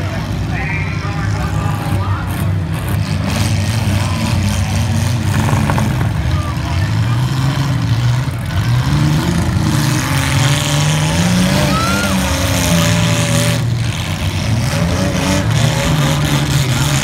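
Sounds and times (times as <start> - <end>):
car engines revving loudly: 0.0 - 17.0.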